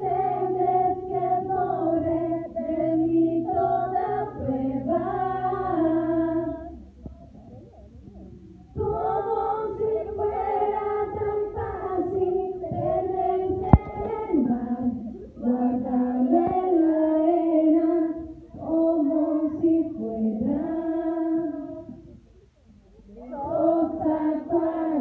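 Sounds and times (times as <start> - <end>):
woman singing into microphone: 0.0 - 6.8, 8.8 - 22.2, 23.2 - 25.0.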